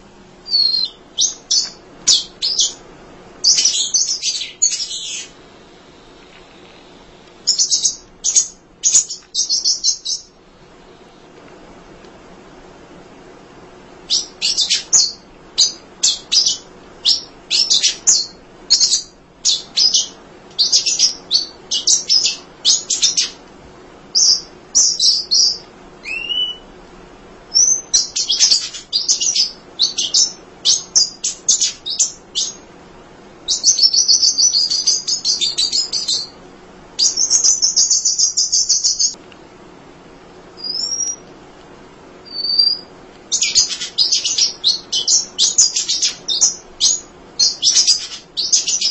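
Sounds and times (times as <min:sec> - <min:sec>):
bird buzzy trills: 0:00.0 - 0:11.2, 0:14.0 - 0:23.4, 0:24.1 - 0:26.8, 0:27.5 - 0:36.4, 0:37.0 - 0:39.2, 0:40.6 - 0:41.3, 0:42.2 - 0:48.9.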